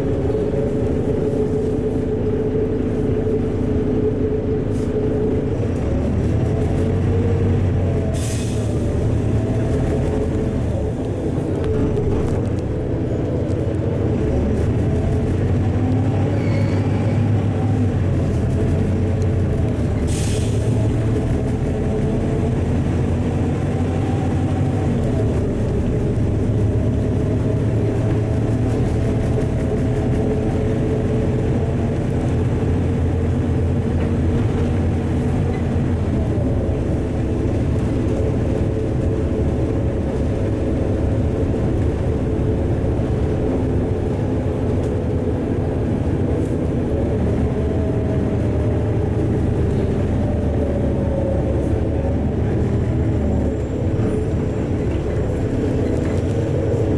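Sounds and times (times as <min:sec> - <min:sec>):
bus engine droning: 0:00.0 - 0:56.9
tyre and road noise: 0:00.0 - 0:56.9.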